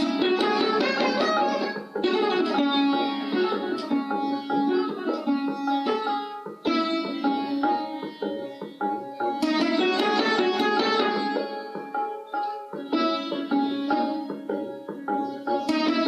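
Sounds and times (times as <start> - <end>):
plucked string instrument playing: 0.0 - 16.0.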